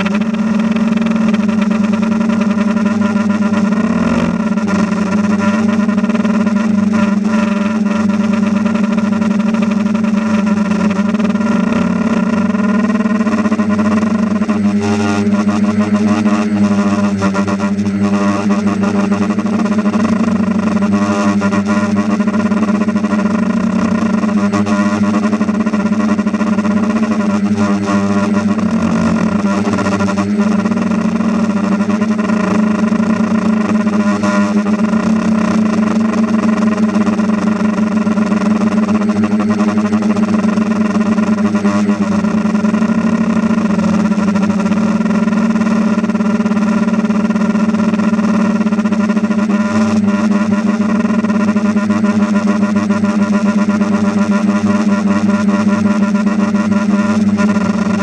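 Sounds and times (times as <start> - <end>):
machine humming: 0.0 - 58.0.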